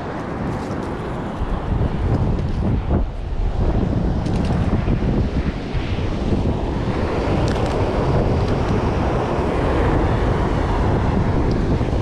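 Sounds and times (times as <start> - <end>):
ocean surf rushing: 0.0 - 12.0
wind buffeting microphone: 0.0 - 12.0.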